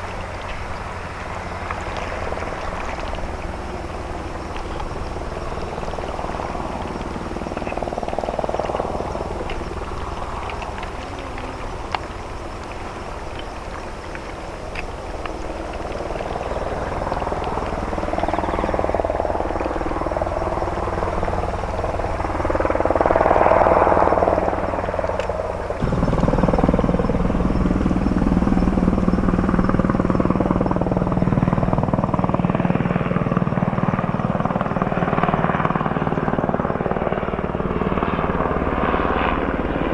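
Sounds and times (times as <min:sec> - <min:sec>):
deep engine hum: 0:00.0 - 0:36.7
boat diesel engines running: 0:00.0 - 0:39.9.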